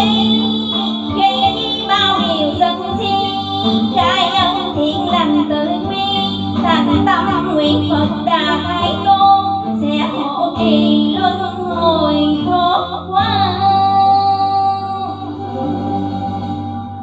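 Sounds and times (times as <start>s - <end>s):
slow song with gliding melody: 0.0s - 17.0s.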